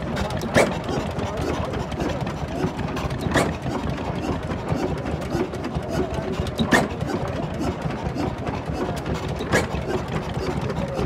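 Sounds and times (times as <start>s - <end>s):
stationary engines chugging: 0.0s - 11.0s.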